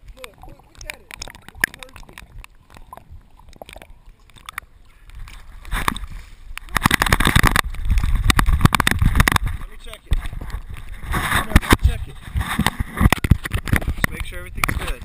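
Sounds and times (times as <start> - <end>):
water sloshing and gurgling: 0.0 - 15.0
water clicks on camera housing: 0.2 - 15.0.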